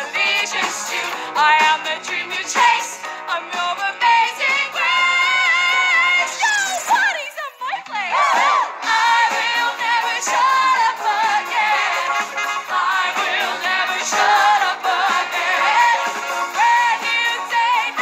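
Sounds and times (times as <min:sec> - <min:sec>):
band backing track: 0:00.0 - 0:07.2, 0:07.8 - 0:18.0.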